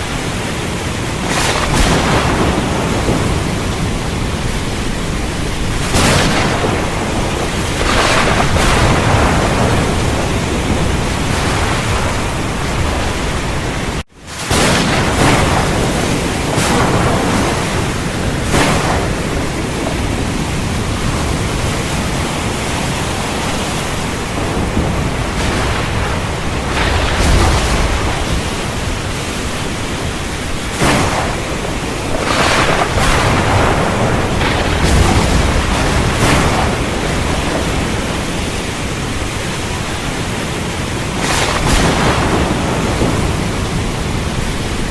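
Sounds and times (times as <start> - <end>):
heavy rain falling: 0.0 - 44.9
thunder cracking and rumbling: 0.0 - 44.9.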